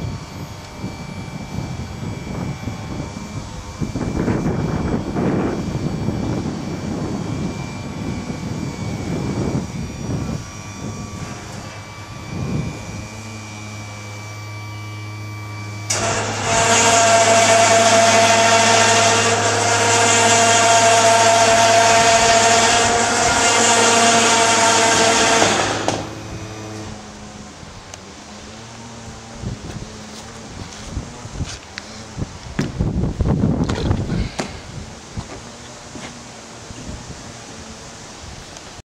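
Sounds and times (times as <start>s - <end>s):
loud mechanical whine: 0.0s - 38.8s
low mechanical rumble: 0.0s - 38.8s
steady low motor hum: 0.0s - 38.8s.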